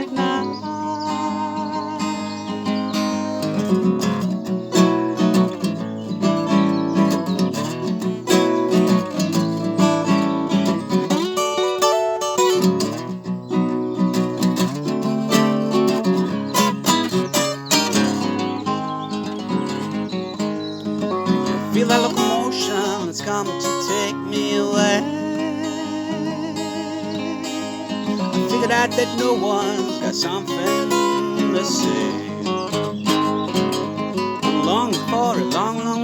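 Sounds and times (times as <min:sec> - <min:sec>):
acoustic guitar strummed and picked: 0:00.0 - 0:36.0.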